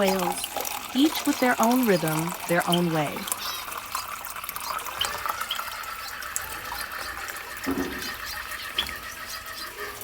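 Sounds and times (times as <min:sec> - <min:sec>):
running water: 0:00.0 - 0:10.0
small birds chirping: 0:00.0 - 0:10.0.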